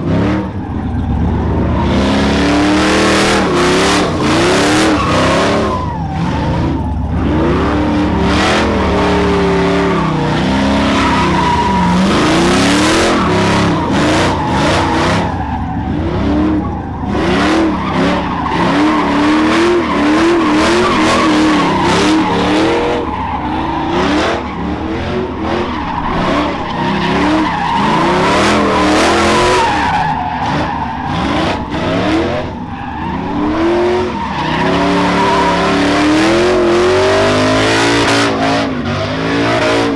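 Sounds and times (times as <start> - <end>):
truck engine revving: 0.0 - 39.9
tyres squealing: 0.5 - 39.9.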